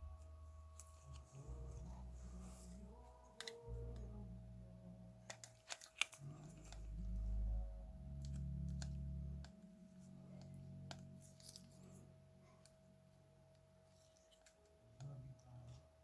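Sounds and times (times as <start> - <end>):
low droning notes: 0.0 - 15.7
faint steady tone: 0.0 - 16.0.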